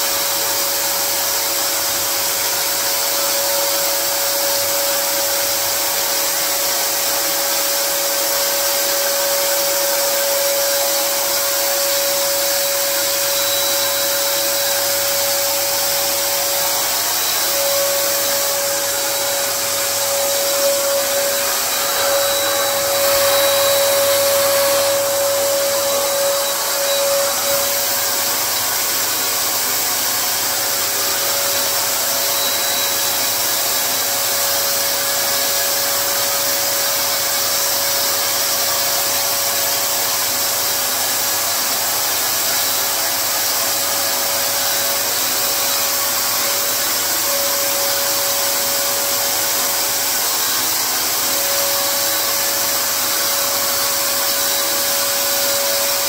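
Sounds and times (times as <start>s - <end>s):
paint spray gun whining: 0.0s - 56.0s.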